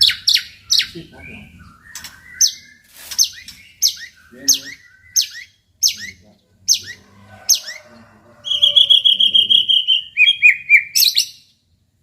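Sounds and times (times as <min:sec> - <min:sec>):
bird singing whistled notes: 0:00.0 - 0:07.0, 0:08.5 - 0:11.5.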